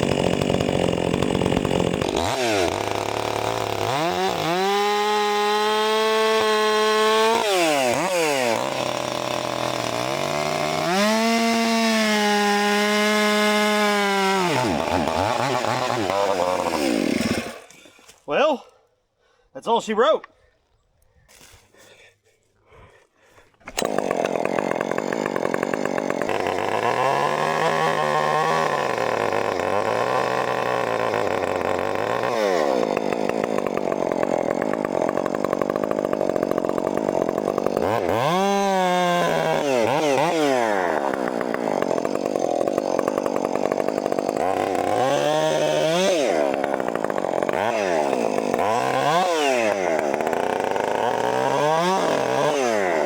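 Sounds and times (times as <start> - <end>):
gas chainsaw running: 0.0 - 18.0, 23.6 - 53.0.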